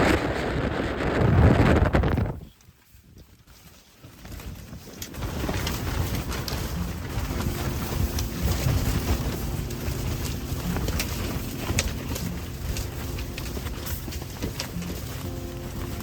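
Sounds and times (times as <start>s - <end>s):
wind gusting over microphone: 0.0s - 16.0s.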